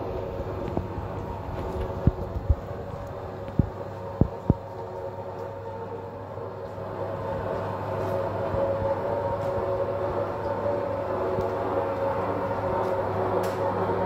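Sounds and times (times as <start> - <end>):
model locomotive electric hum: 0.0 - 14.0.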